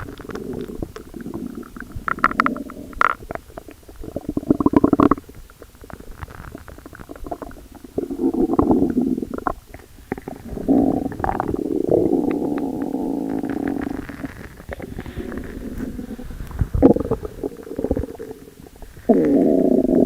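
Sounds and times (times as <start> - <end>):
stomach gurgling pops: 0.0 - 20.0
stomach rumble: 0.0 - 20.0.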